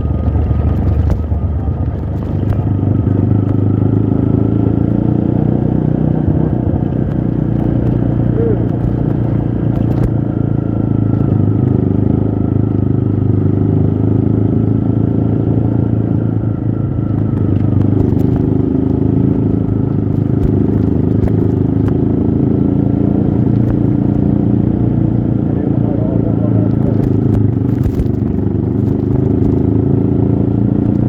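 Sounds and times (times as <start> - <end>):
trail motorcycle engine running: 0.0 - 31.0.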